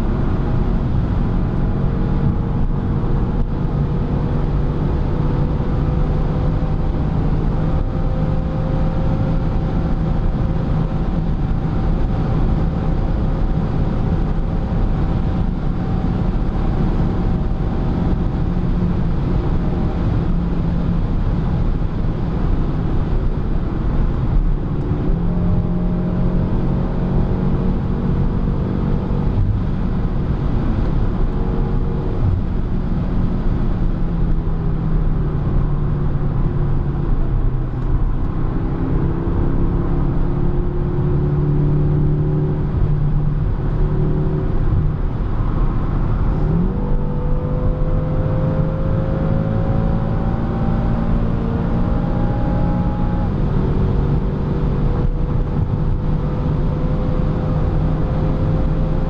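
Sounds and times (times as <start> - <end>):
car engine droning: 0.0 - 59.0
wind and tyre noise: 0.0 - 59.0.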